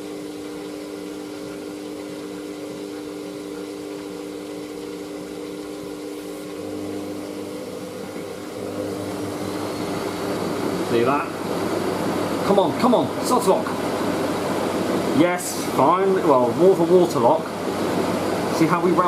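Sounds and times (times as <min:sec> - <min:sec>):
washing machine drum motor: 0:00.0 - 0:19.0.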